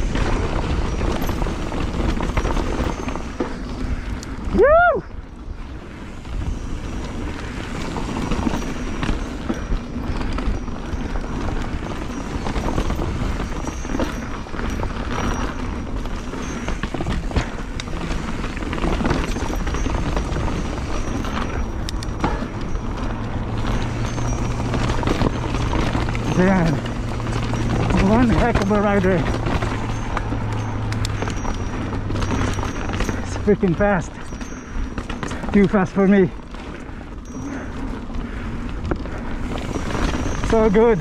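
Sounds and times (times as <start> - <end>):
bike rattling over bumps: 0.0 - 41.0
tyres on dirt: 0.0 - 41.0
wind rushing over microphone: 0.0 - 41.0.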